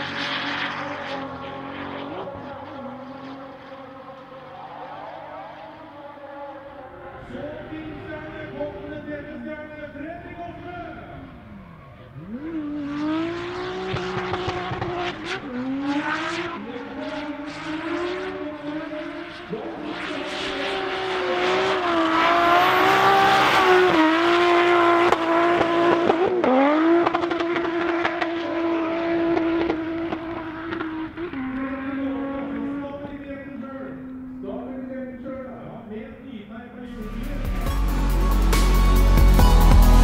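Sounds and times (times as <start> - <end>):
car engine revving high: 0.0 - 34.4.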